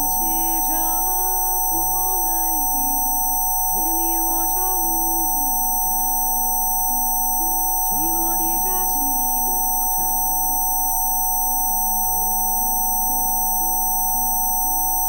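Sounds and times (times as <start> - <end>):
steady pure tones: 0.0 - 15.0.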